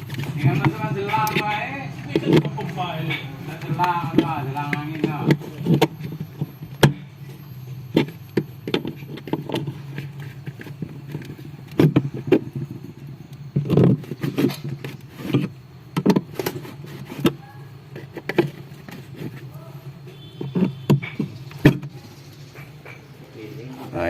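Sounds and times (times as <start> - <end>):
plastic parts clicking and knocking: 0.0 - 19.5, 20.2 - 22.0
refrigerator low hum: 0.0 - 24.0.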